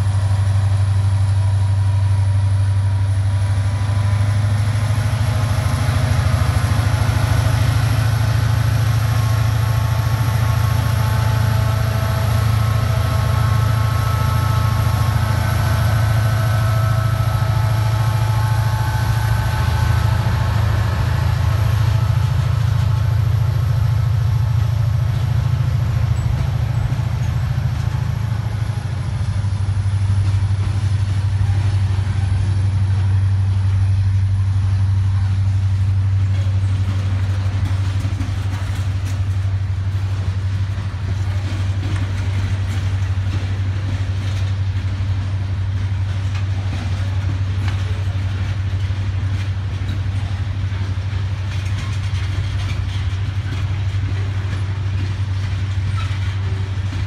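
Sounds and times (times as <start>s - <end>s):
diesel locomotive engine drone: 0.0s - 57.0s
locomotive whine: 0.0s - 57.0s
train wheels clicking over rail joints: 0.0s - 57.0s.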